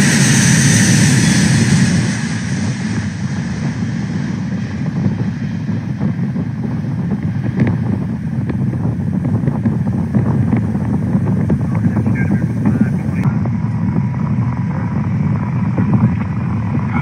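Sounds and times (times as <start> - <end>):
jet engines rumbling: 0.0 - 17.0
wind noise on microphone: 0.0 - 17.0.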